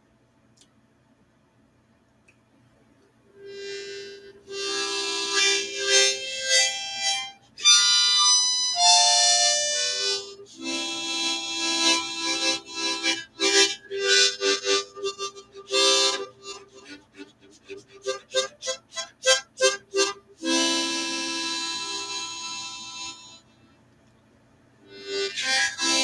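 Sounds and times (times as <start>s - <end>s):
harmonica playing melody: 3.4s - 23.5s, 24.9s - 26.0s.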